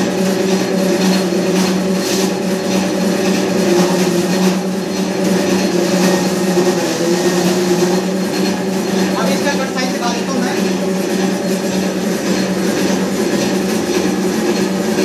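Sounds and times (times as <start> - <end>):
paper shredder motor hum: 0.0 - 15.0.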